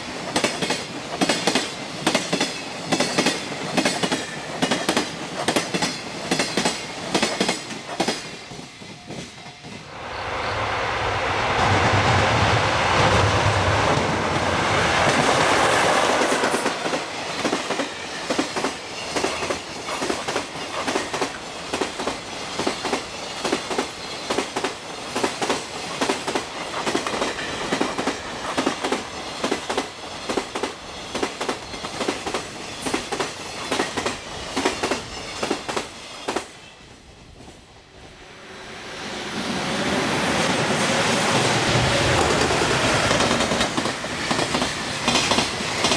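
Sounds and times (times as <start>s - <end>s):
train wheels clickety-clack: 0.0s - 9.9s, 11.2s - 38.0s, 39.4s - 45.9s
train rushing: 0.0s - 45.9s.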